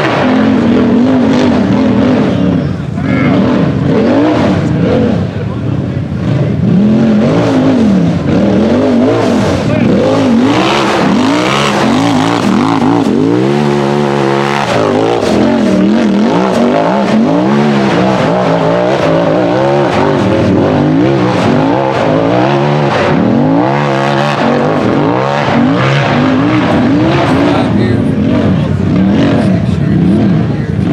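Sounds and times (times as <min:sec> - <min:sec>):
buggy engine revving hard: 0:00.0 - 0:30.9.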